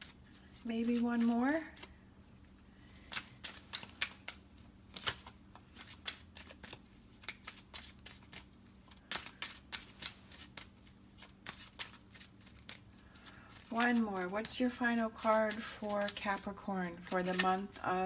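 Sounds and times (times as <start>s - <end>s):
cards being shuffled: 0.0s - 2.0s, 2.9s - 18.0s.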